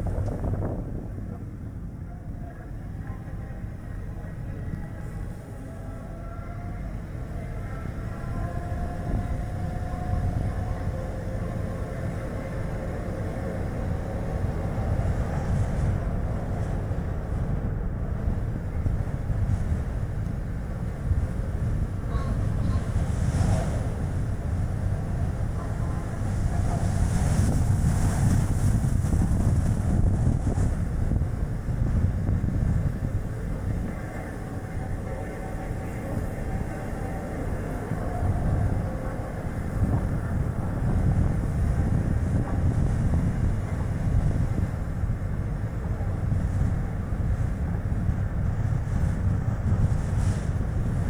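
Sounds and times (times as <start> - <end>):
wind and road noise: 0.0 - 2.0, 8.8 - 35.1, 35.8 - 51.0
hissing wind gusts: 0.0 - 51.0.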